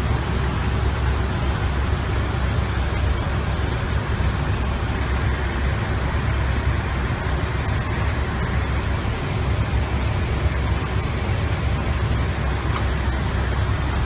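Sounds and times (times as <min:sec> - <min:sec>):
air rushing past cockpit windows: 0:00.0 - 0:14.0
engine noise: 0:00.0 - 0:14.0.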